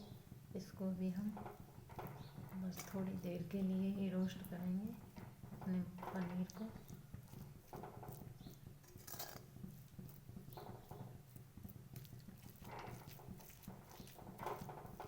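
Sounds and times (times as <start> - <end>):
spoon stirring and scraping in a pan: 0.0 - 15.0.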